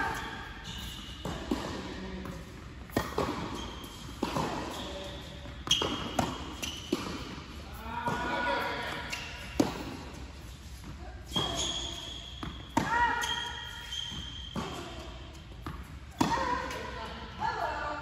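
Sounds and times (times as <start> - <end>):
ball bouncing on hard court: 0.0 - 7.4, 8.0 - 17.1.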